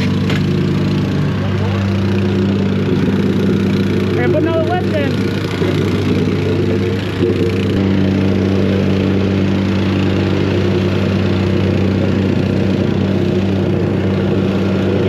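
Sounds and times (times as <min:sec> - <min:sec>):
paving machine engine running: 0:00.0 - 0:15.0.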